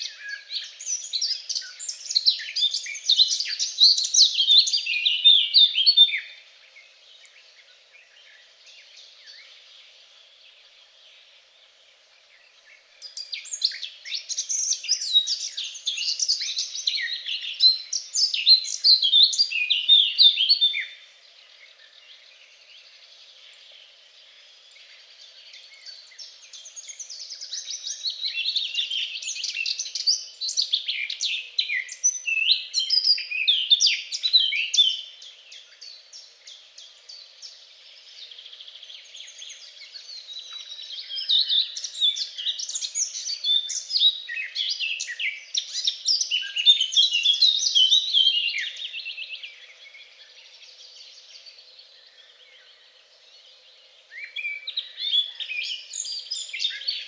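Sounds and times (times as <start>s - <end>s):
other birds singing: 0.0s - 57.0s
songbird singing: 0.0s - 57.0s.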